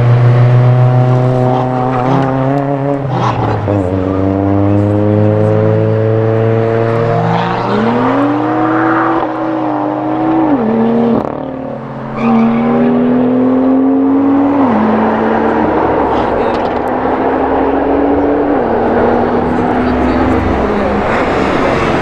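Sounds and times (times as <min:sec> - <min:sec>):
car engine accelerating: 0:00.0 - 0:22.0
second car engine revving: 0:00.0 - 0:22.0.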